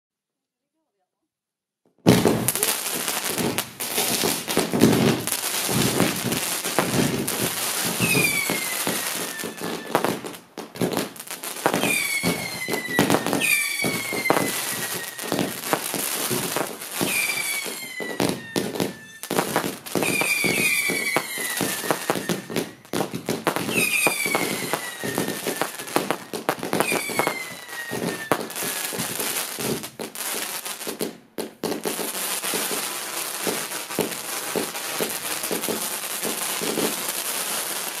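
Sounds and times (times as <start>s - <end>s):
fireworks bangs and crackles: 1.9s - 38.0s
falling firework whistle: 2.1s - 30.0s, 31.6s - 38.0s.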